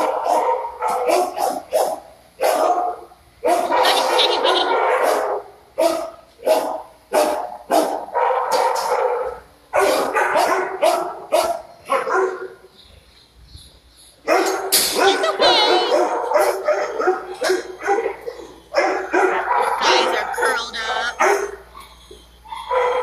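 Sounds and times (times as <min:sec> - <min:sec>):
dogs barking with echo: 0:00.0 - 0:12.6, 0:14.2 - 0:21.9, 0:22.5 - 0:23.0.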